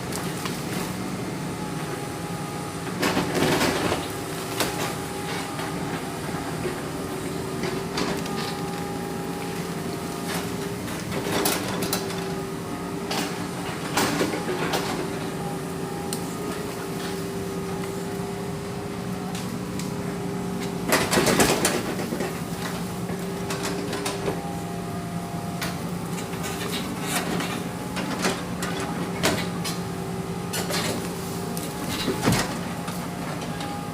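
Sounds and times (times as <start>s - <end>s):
excavator diesel engine humming: 0.0s - 33.9s.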